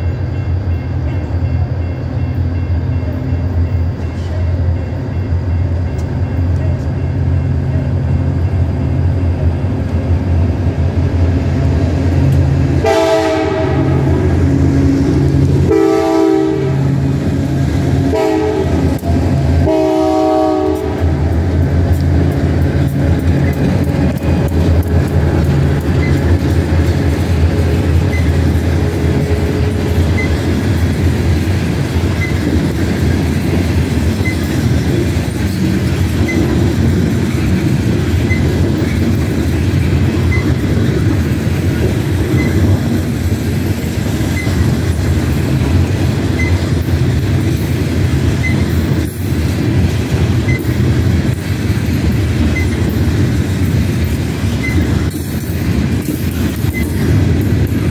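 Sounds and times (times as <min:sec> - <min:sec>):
diesel locomotive engines droning: 0:00.0 - 0:57.9
freight cars rumbling on rails: 0:00.0 - 0:57.9.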